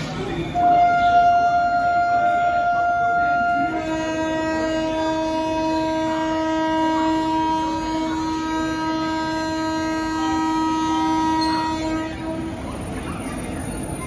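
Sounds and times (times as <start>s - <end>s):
locomotive horn blast: 0.4s - 12.7s.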